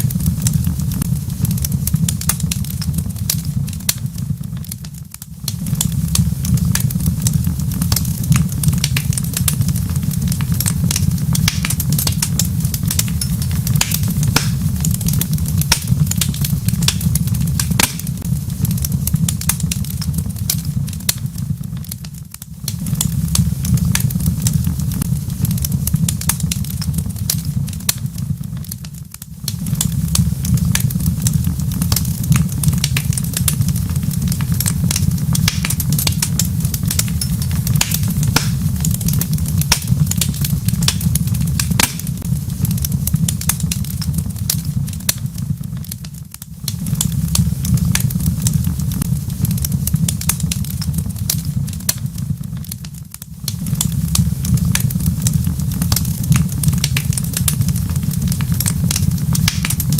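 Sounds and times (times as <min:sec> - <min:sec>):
low rumble: 0:00.0 - 0:52.6
wood fire crackling: 0:00.0 - 0:59.9.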